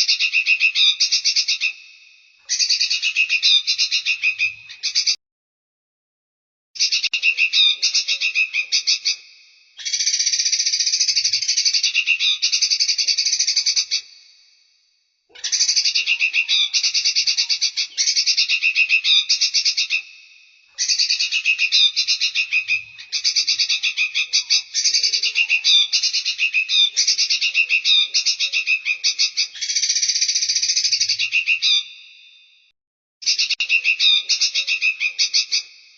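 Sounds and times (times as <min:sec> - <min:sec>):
songbird trilling: 0:00.0 - 0:01.8, 0:02.5 - 0:05.2, 0:06.8 - 0:09.2, 0:09.8 - 0:14.1, 0:15.3 - 0:20.1, 0:20.8 - 0:32.0, 0:33.2 - 0:35.7.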